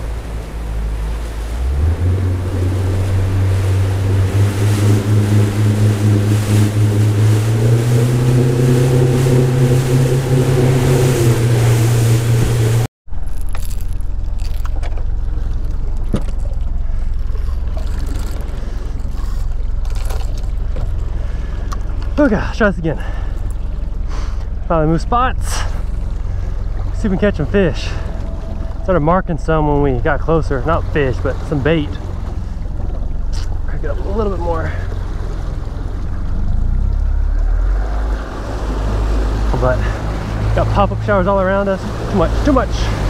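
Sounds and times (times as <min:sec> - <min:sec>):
low steady rumble: 0:00.0 - 0:43.0
outboard motor running: 0:00.0 - 0:43.0
rushing water: 0:00.0 - 0:43.0
wind: 0:00.0 - 0:43.0.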